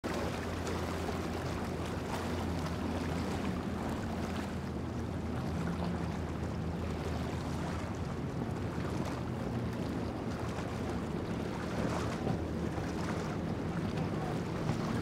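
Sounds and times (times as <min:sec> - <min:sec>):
motorboat engine running: 0:00.0 - 0:15.0.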